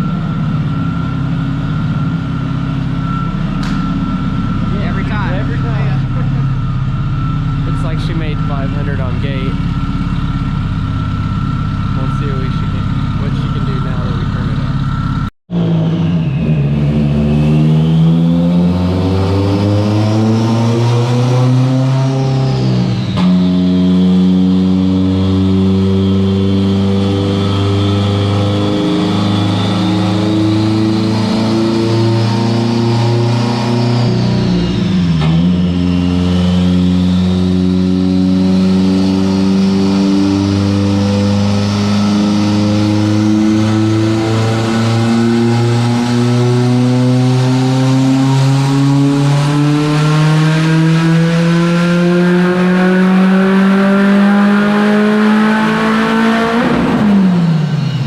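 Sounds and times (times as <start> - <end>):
turbocharged car engine revving: 0.0 - 58.0.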